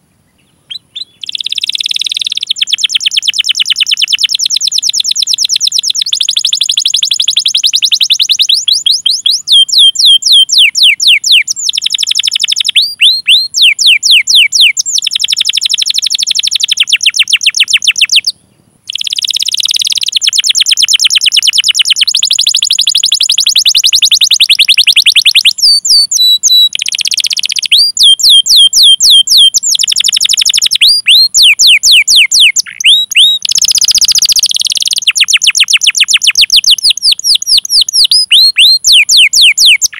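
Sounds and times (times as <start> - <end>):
canary singing trills: 0.0 - 39.9
canary call notes: 0.3 - 39.9.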